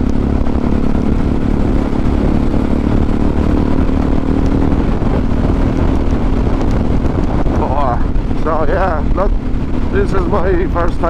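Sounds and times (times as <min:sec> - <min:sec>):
motorcycle engine running: 0:00.0 - 0:11.0
wind rumble: 0:00.0 - 0:11.0.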